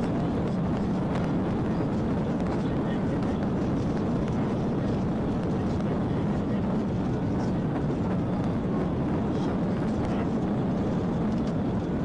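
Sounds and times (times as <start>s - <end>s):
car driving at high speed: 0.0s - 12.0s.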